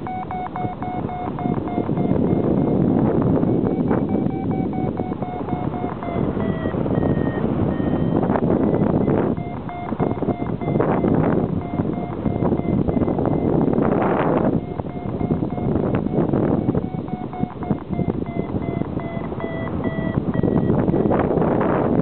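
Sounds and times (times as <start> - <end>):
variometer beeping in short pulses: 0.0 - 22.0
wind rushing over microphone: 0.0 - 22.0.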